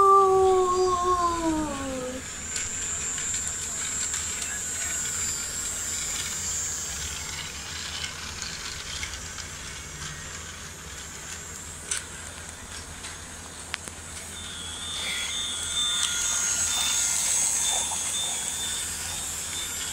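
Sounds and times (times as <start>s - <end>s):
toy train motor whine: 0.0s - 19.9s.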